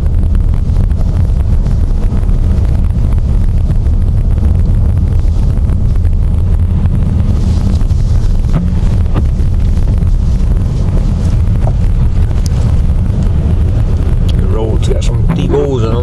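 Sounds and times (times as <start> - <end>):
vehicle rumble inside cabin: 0.0 - 16.0
wind noise: 0.0 - 16.0.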